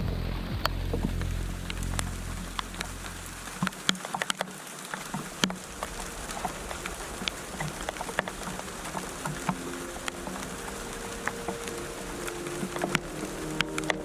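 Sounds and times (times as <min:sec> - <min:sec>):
low hum: 0:00.0 - 0:03.9, 0:05.3 - 0:14.0
faint hiss: 0:00.0 - 0:14.0
raindrops tapping on surfaces: 0:00.0 - 0:14.0.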